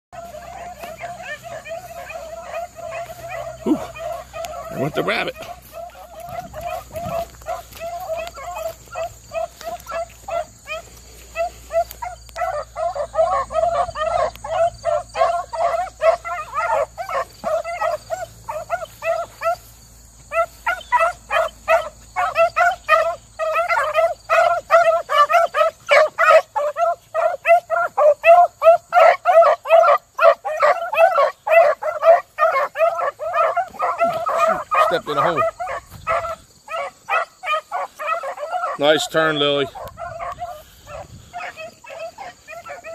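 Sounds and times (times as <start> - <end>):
hounds baying: 0.1 - 42.9.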